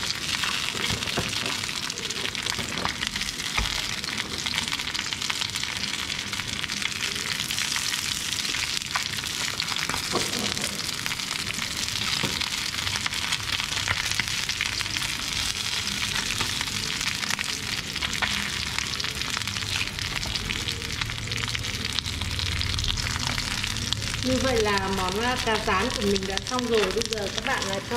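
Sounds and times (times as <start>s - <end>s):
fish sizzling in oil: 0.0s - 27.9s.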